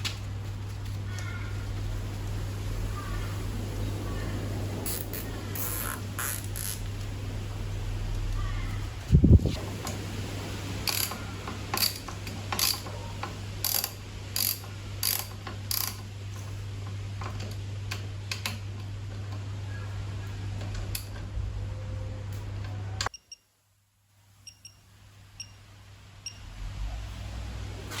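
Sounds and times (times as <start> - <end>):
steady low hum: 0.0 - 23.1.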